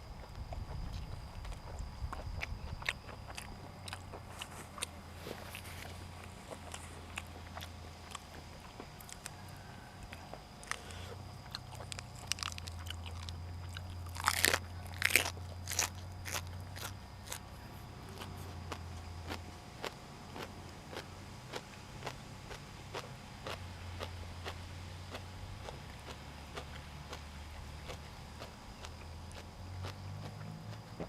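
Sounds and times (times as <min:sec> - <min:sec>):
person chewing crisp vegetables: 0:00.0 - 0:31.0.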